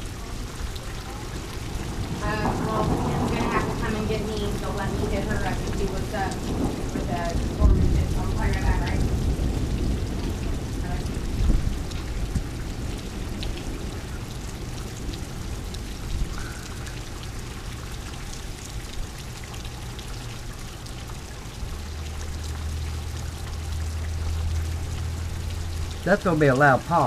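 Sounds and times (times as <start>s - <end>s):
low steady rumble: 0.0s - 26.9s
heavy rain falling: 0.0s - 27.0s.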